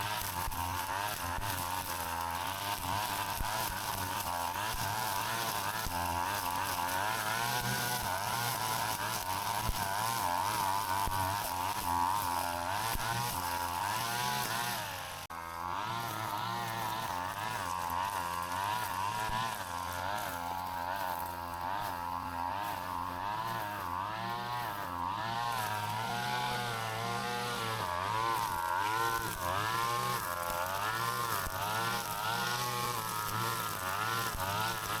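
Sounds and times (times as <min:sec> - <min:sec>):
brush cutter engine running: 0:00.0 - 0:35.0.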